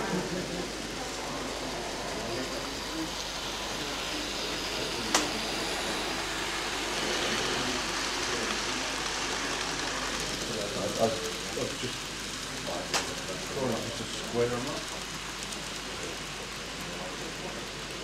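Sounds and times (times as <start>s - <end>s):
distant chatter: 0.0s - 18.0s
model trains running: 0.0s - 18.0s.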